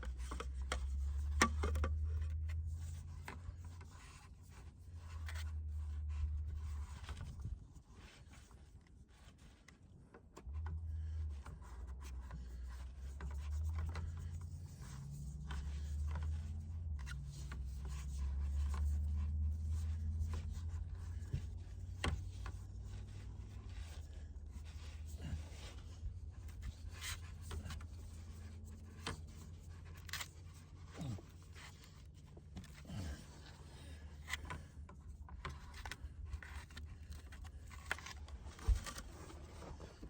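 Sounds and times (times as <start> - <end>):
rubbing and scraping handling noises: 0.0 - 40.0.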